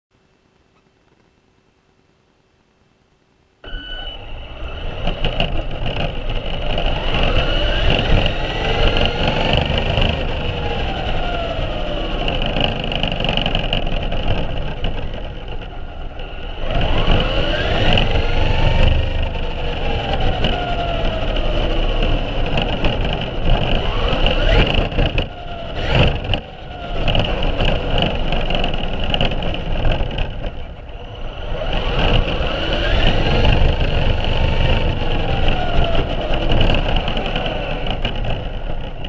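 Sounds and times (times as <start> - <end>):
tyres rumbling on pavement: 3.8 - 39.0.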